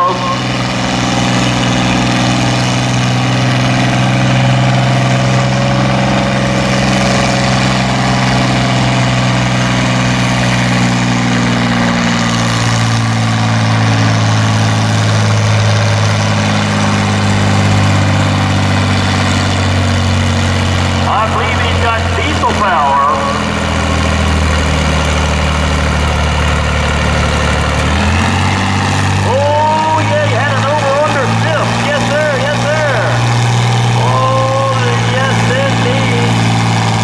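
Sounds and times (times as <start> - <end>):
tractor engine running hard: 0.0 - 37.0.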